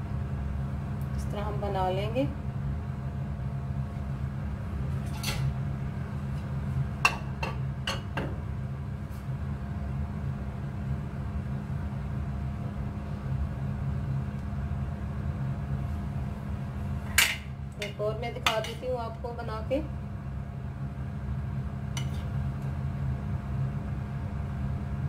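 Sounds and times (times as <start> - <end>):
steady low machine hum: 0.0 - 25.0.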